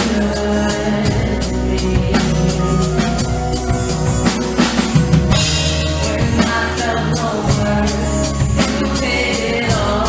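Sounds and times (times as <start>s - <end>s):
live band playing: 0.0s - 10.0s.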